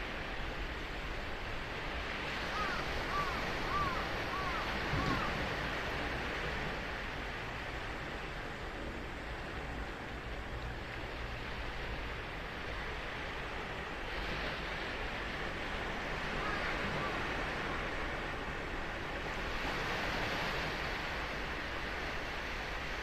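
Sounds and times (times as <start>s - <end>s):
waves breaking on beach: 0.0s - 23.0s.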